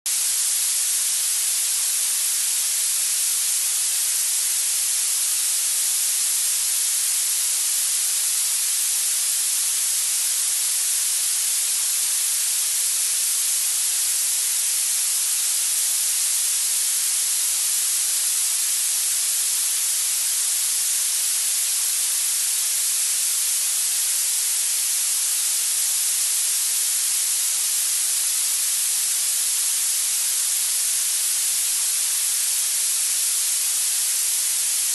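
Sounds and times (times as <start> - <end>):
steady synthesized noise hiss: 0.1 - 34.9.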